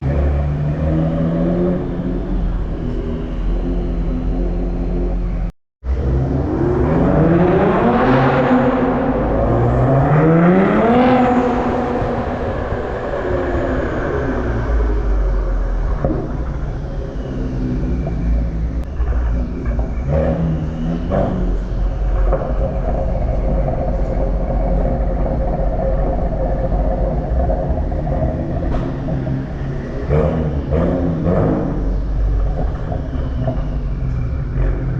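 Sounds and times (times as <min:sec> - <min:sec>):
car exhaust revving: 0:00.0 - 0:34.9.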